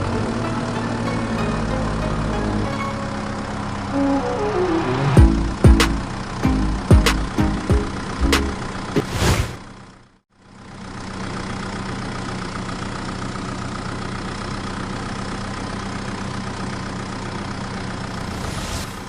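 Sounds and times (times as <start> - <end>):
engine idling: 0.0 - 9.0, 9.6 - 18.8.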